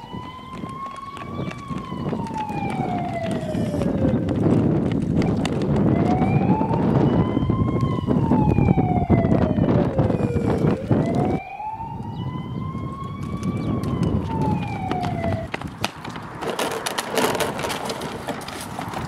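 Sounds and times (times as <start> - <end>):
siren wailing: 0.0 - 15.6.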